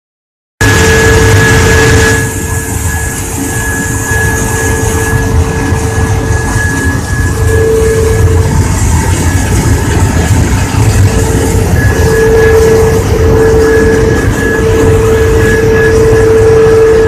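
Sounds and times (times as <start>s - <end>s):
constant machine whine: 0.6s - 17.0s
grinding mill rumbling: 0.6s - 17.0s.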